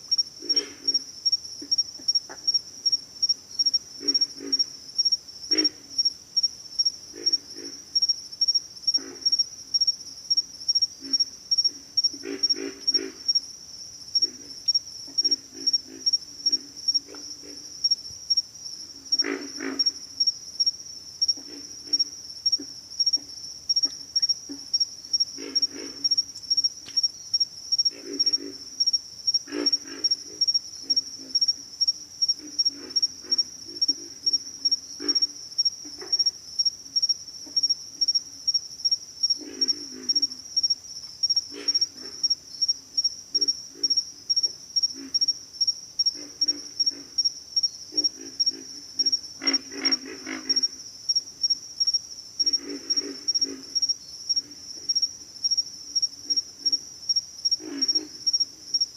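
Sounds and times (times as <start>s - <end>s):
frogs grunting: 0.0s - 27.0s, 27.6s - 58.9s
insects chirping: 0.0s - 58.9s.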